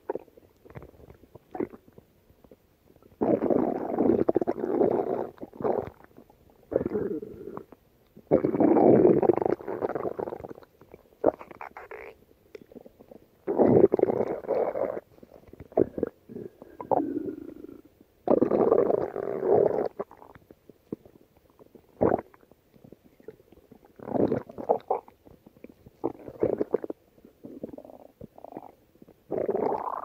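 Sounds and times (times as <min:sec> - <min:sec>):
stomach growling: 0:00.0 - 0:30.0.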